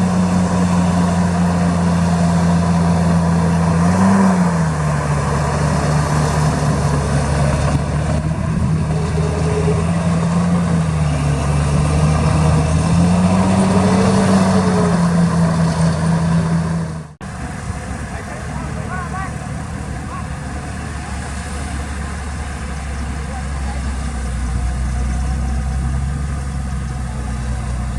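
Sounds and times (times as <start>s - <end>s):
heavy diesel engine running: 0.0s - 27.9s.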